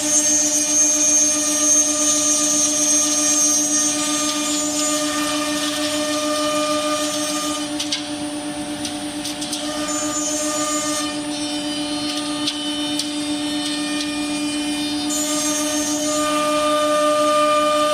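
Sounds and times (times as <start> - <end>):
machine noise: 0.0 - 17.9
router spindle whine and hum: 0.0 - 17.9.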